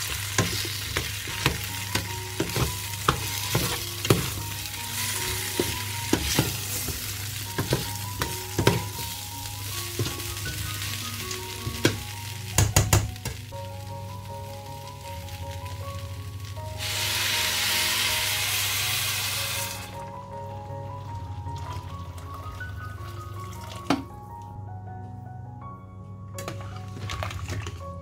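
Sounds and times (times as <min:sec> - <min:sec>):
vegetables sizzling in a pot: 0:00.0 - 0:24.0.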